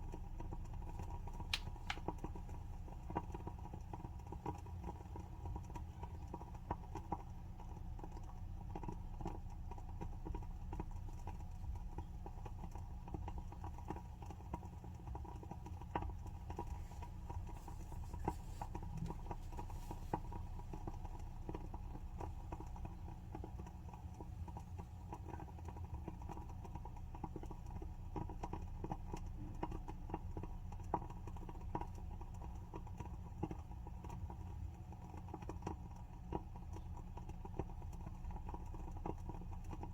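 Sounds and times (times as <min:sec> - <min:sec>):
low steady hum: 0:00.0 - 0:39.9
wooden wick crackling: 0:00.0 - 0:39.9.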